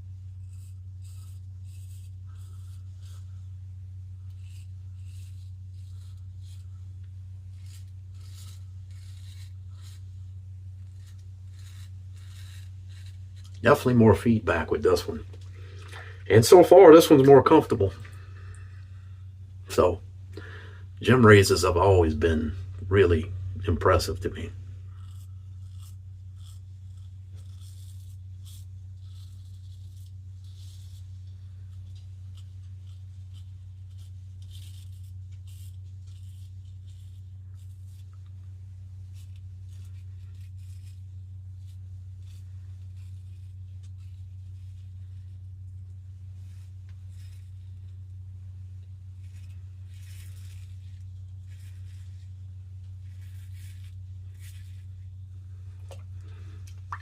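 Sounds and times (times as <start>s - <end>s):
razor scraping stubble: 0.0s - 18.2s, 21.0s - 57.0s
steady low hum: 0.0s - 57.0s.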